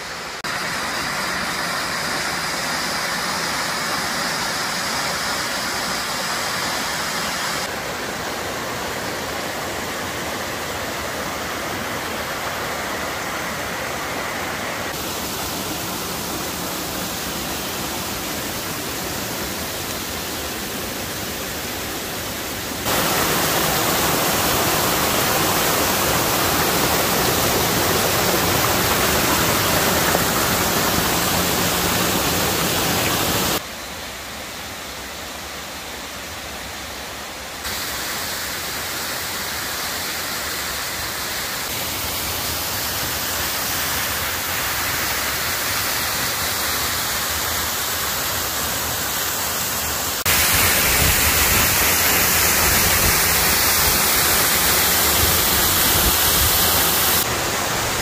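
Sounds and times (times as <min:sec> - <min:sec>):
waterfall rushing: 0:00.0 - 0:34.2, 0:34.9 - 0:58.0.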